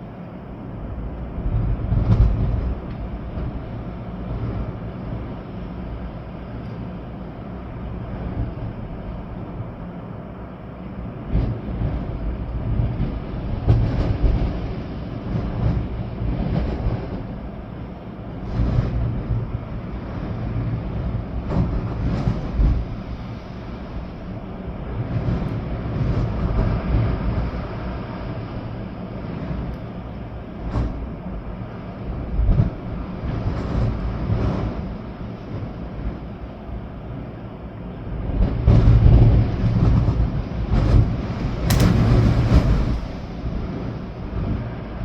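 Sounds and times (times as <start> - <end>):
storm wind gusting through trees: 0.0 - 45.0.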